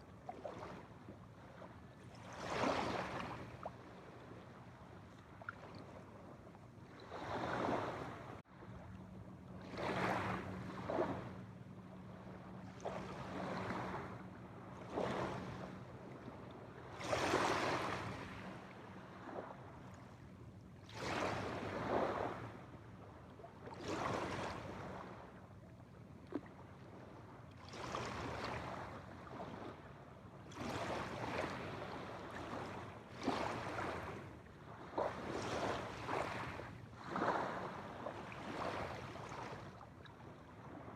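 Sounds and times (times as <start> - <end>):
small waves washing onto shore: 0.0 - 8.8, 9.4 - 20.0, 20.8 - 22.7, 23.5 - 25.4, 26.3 - 40.9.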